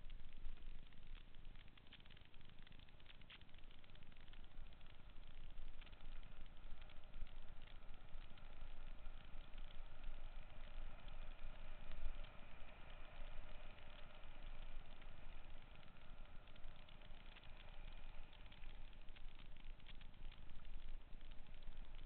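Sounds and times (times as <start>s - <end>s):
bike tyres rolling on dirt: 0.0s - 22.0s
wind rumble on camera: 0.0s - 22.0s.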